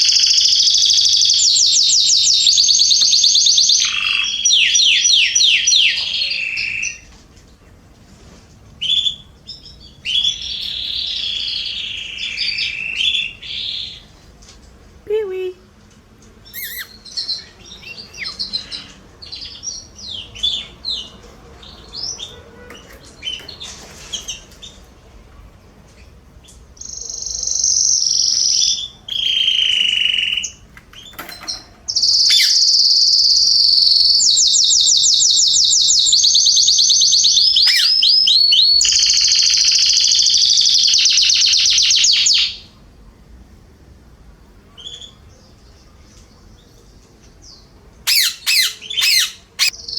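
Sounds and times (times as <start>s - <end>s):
canary singing in rolling trills: 0.0s - 7.8s, 8.7s - 14.2s, 16.4s - 42.8s, 44.6s - 49.9s.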